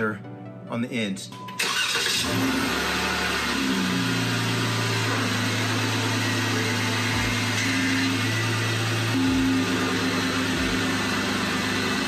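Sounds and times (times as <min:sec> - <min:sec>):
car engine idling: 0:01.6 - 0:12.0.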